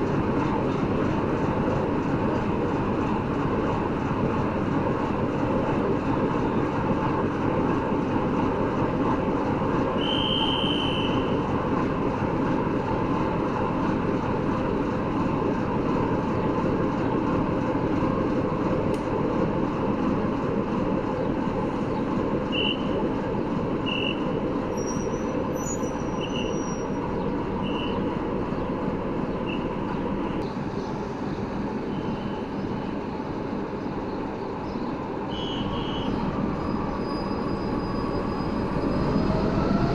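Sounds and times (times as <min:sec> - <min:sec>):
locomotive running: 0:00.0 - 0:39.9.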